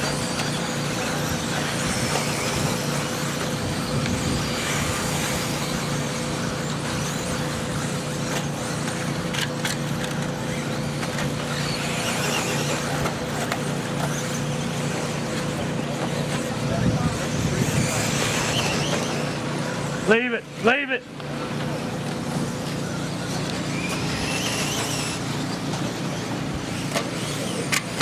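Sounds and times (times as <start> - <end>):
toy car motors whining: 0.0 - 28.0.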